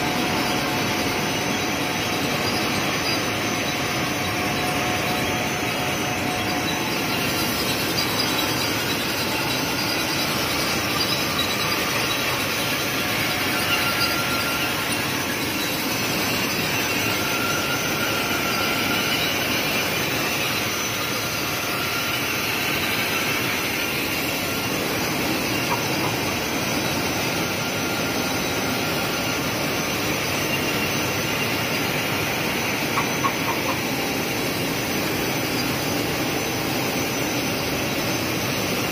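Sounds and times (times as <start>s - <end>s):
faint machine whine: 0.0s - 38.9s.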